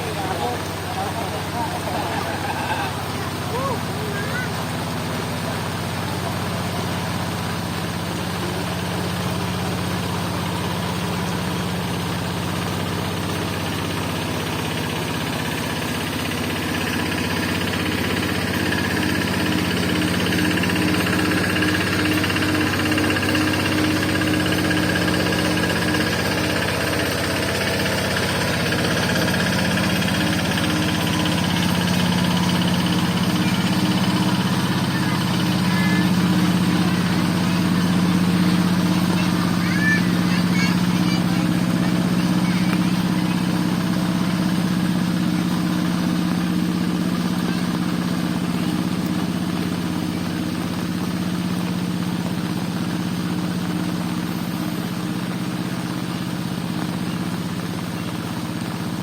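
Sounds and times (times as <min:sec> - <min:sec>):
engine running steadily: 0:00.0 - 0:59.0
rain falling: 0:00.0 - 0:59.0.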